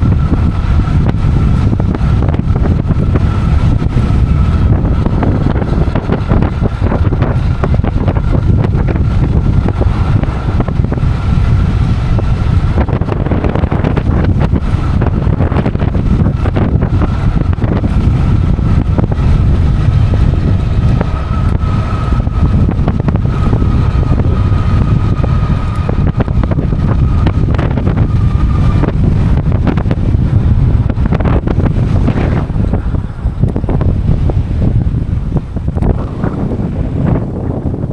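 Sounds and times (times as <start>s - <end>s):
electric motor whine: 0.0s - 37.6s
wind buffeting microphone: 0.0s - 37.9s.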